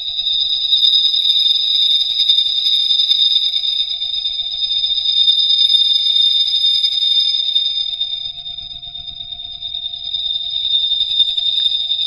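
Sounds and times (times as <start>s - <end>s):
shrill high synth buzzing drone: 0.0s - 12.0s.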